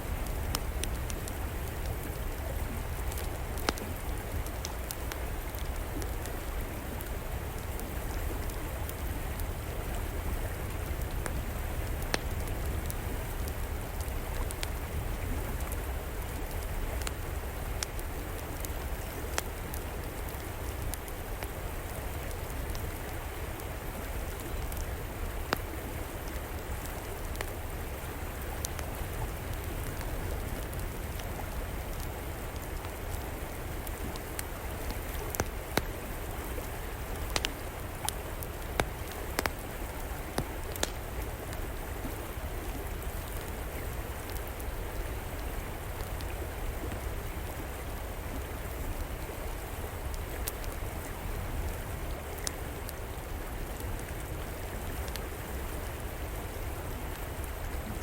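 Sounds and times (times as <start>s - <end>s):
wood fire crackling: 0.0s - 57.7s
river flowing: 0.0s - 58.0s.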